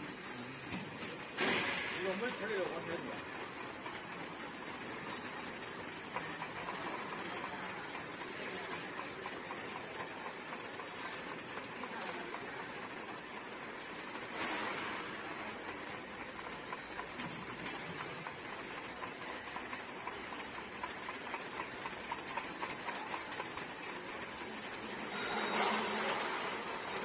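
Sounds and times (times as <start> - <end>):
machine ticking clatter: 0.0 - 27.0.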